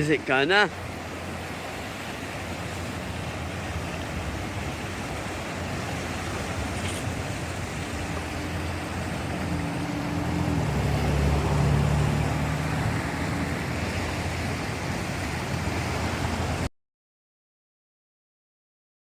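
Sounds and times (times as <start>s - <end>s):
floodwater rushing: 0.0s - 16.7s
vehicle engine humming: 0.0s - 16.7s.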